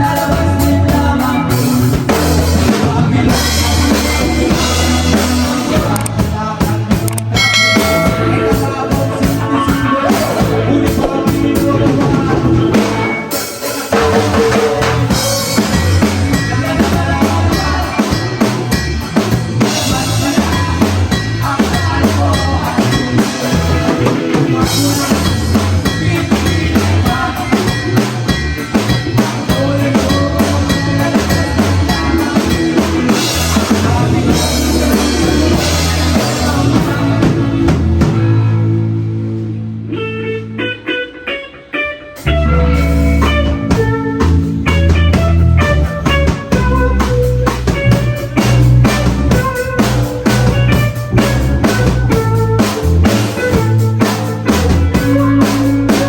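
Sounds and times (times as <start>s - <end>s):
picked guitar notes: 0.0s - 56.0s
rock band playing live: 0.0s - 56.0s.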